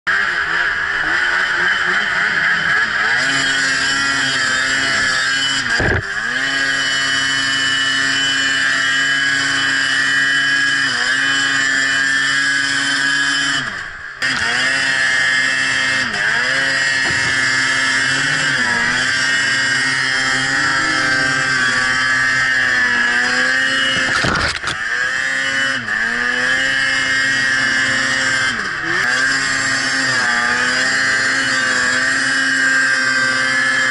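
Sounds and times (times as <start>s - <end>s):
snowmobile engine revving: 0.1s - 33.9s.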